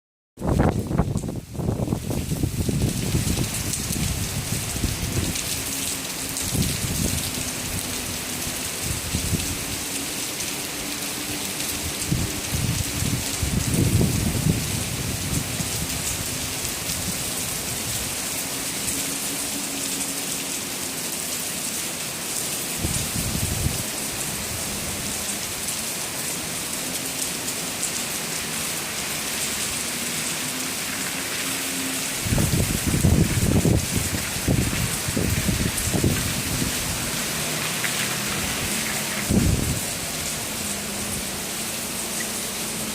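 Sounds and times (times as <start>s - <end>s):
heavy rain hiss: 0.4s - 42.9s.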